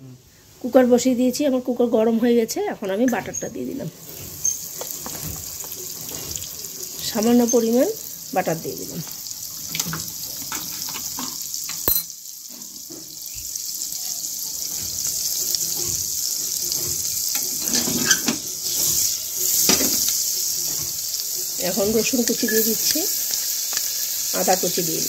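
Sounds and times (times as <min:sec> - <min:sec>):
butter sizzling and crackling: 0:02.4 - 0:25.0.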